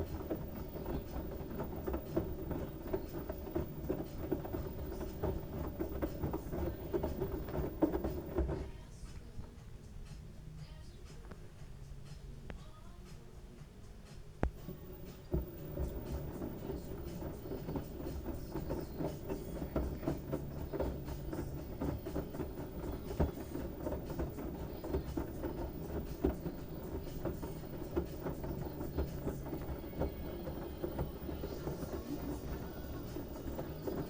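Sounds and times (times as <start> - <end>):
washing machine hum: 0.0 - 34.0.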